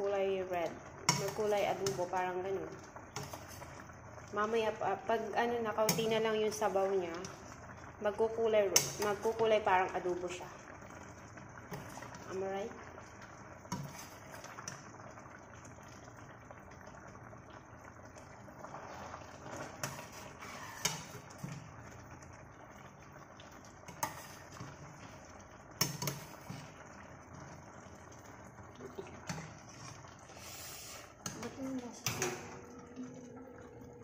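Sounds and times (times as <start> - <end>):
liquid simmering in a pot: 0.0 - 34.0.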